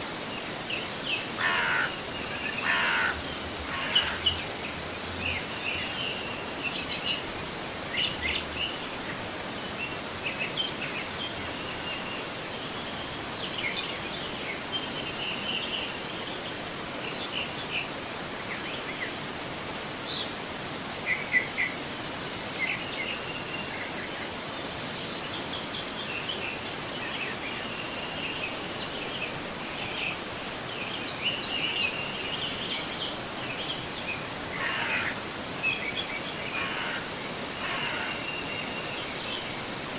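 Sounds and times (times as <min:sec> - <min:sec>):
river water rushing: 0:00.0 - 0:39.9
songbirds chirping: 0:00.0 - 0:39.9.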